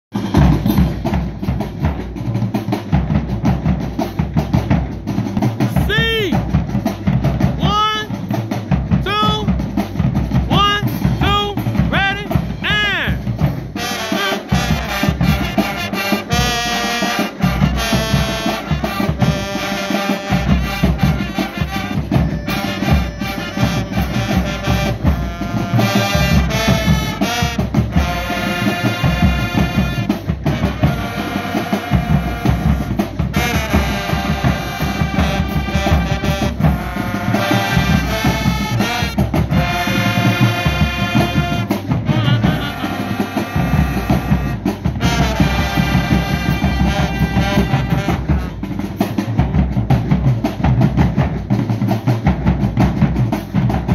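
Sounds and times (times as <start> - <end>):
snare and bass drums: 0.1 - 53.9
brass section playing: 0.2 - 49.4.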